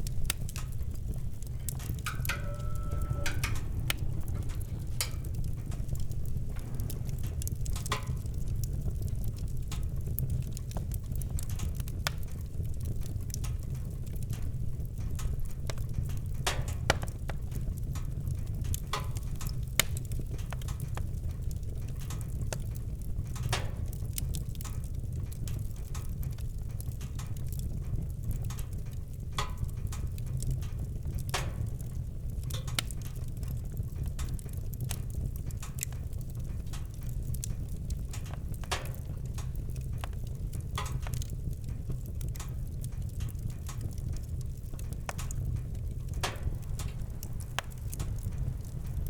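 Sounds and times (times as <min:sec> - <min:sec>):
campfire crackling: 0:00.0 - 0:49.0
fire pops and snaps: 0:00.0 - 0:49.0
low fire rumble: 0:00.0 - 0:49.0.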